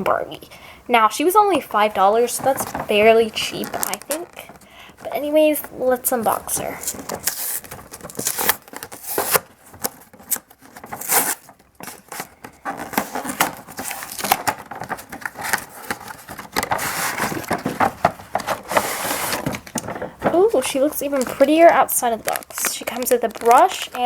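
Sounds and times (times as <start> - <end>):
cardboard and plastic packaging rustling: 1.2 - 24.0.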